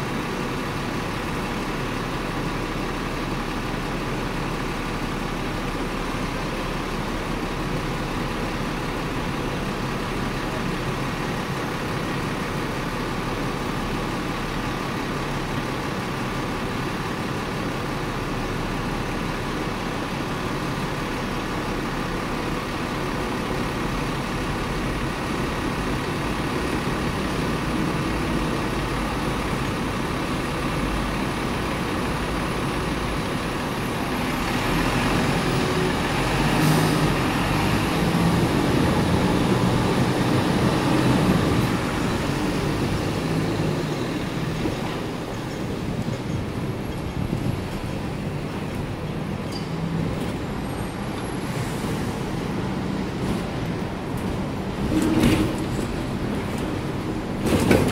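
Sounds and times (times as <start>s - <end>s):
street traffic hum: 0.0s - 57.9s.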